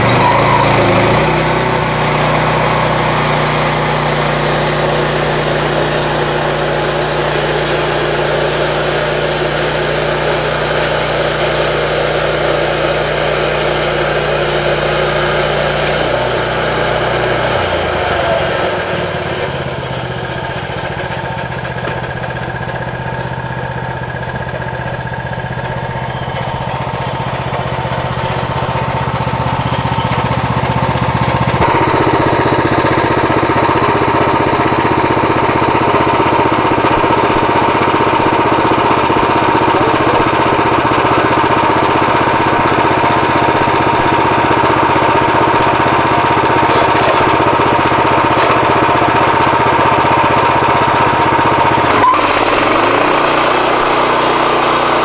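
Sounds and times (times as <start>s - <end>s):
petrol engine running: 0.0s - 55.0s.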